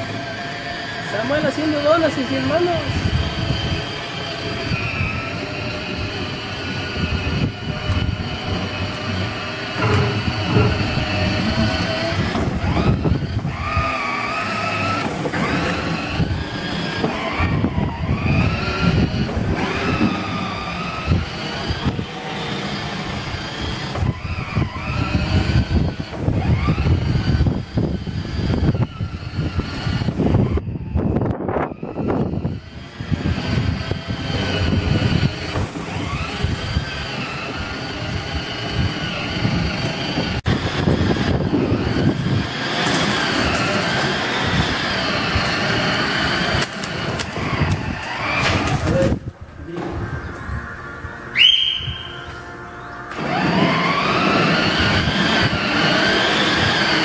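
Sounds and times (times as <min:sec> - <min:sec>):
plastic wheels rumbling on ground: 0:00.0 - 0:50.5, 0:53.0 - 0:57.0
electric motors whining: 0:00.0 - 0:57.0.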